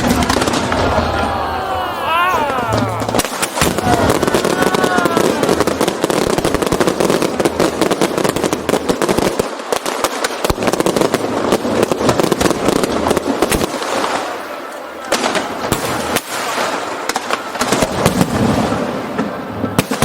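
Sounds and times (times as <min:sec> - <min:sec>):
fireworks crackling and popping: 0:00.0 - 0:20.0
fireworks sharp bangs: 0:00.0 - 0:20.0.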